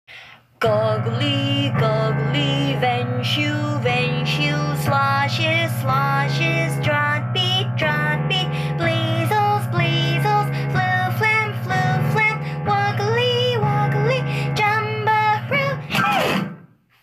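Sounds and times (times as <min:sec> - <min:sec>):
person singing children's song: 0:00.6 - 0:16.5.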